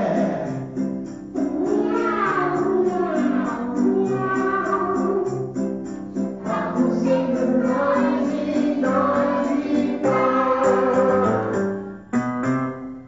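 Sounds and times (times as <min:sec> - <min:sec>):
children's song with voices singing: 0:00.0 - 0:12.1.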